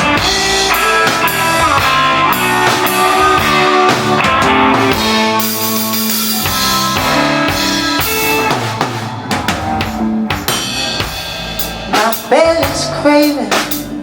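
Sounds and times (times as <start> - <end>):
electric guitar held notes: 0.0 - 11.6
drum kit hits: 0.0 - 14.0.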